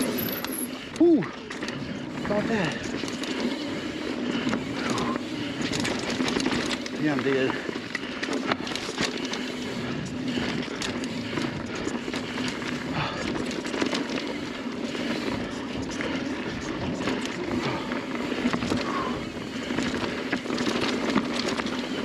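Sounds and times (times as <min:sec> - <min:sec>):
bike rattling over bumps: 0:00.0 - 0:22.0
tyre noise on dirt: 0:00.0 - 0:22.0.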